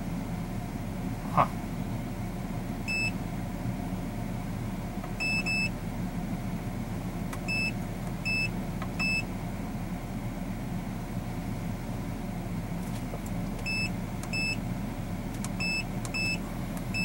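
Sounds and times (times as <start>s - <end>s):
car engine idling: 0.1s - 17.0s.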